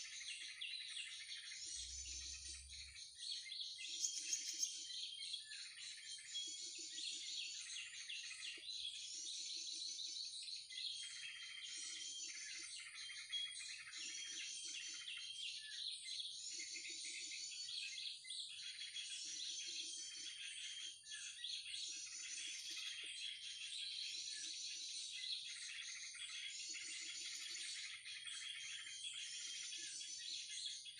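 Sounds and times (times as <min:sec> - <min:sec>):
songbirds chattering and chirping: 0:00.0 - 0:30.9.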